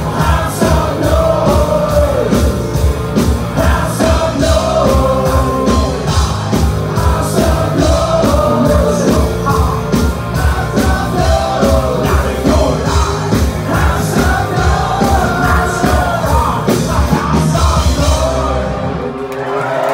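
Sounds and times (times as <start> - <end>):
hard rock band playing live: 0.0 - 19.3
sung and yelled vocals: 0.0 - 19.9.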